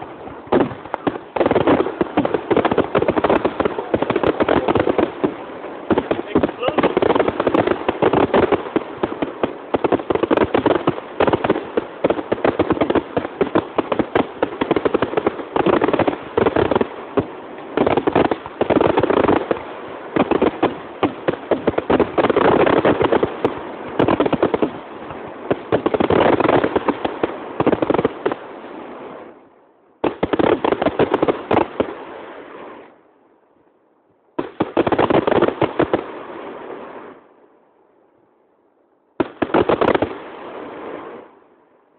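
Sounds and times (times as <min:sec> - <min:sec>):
fireworks bangs and crackles: 0:00.0 - 0:33.0, 0:34.3 - 0:37.3, 0:39.2 - 0:41.4.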